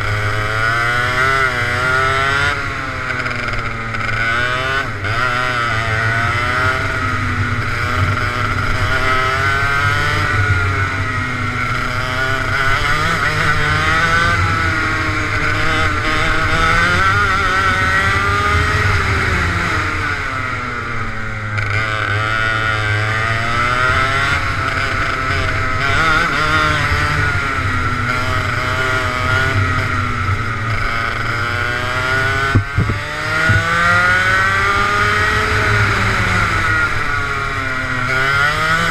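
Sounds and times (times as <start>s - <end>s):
go-kart engine accelerating: 0.0s - 38.9s.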